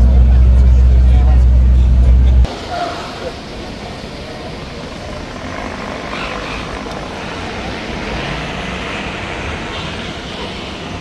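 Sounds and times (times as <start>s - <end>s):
low engine rumble: 0.0s - 9.6s
street noise: 0.0s - 11.0s.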